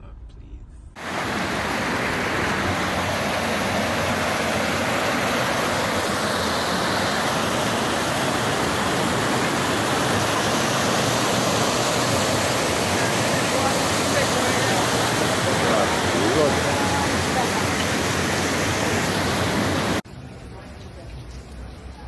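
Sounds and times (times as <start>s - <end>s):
floodwater rushing: 1.0s - 20.0s.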